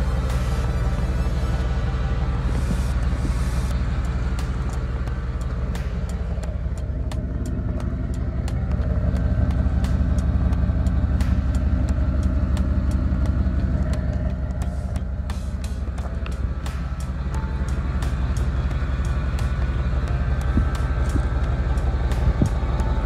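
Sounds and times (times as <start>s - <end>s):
pickup engine rumbling: 0.0s - 23.0s.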